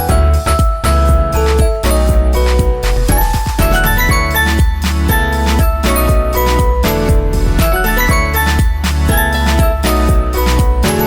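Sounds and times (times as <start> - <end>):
music with beat and bell-like notes: 0.0 - 11.0.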